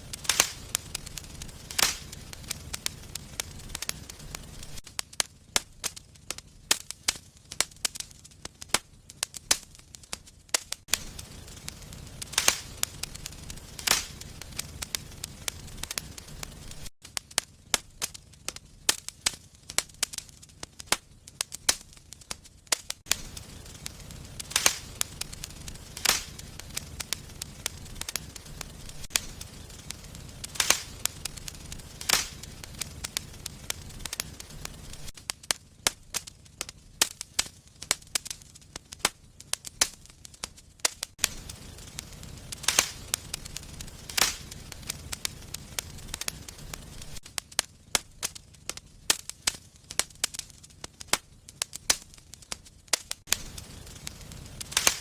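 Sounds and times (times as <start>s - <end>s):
fire popping: 0.0s - 55.0s
wood fire crackling: 0.0s - 55.0s.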